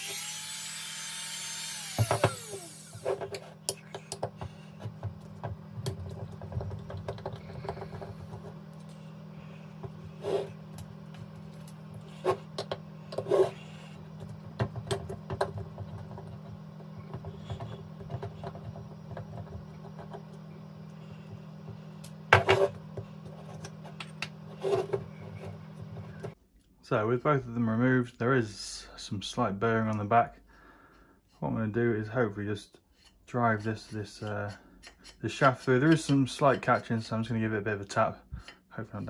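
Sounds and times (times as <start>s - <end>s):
steady low hum: 1.6s - 39.0s.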